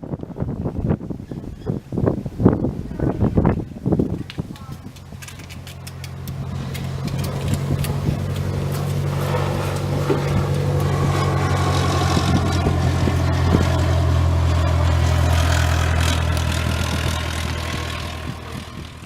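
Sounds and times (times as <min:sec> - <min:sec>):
aircraft engine droning: 0:02.2 - 0:19.0.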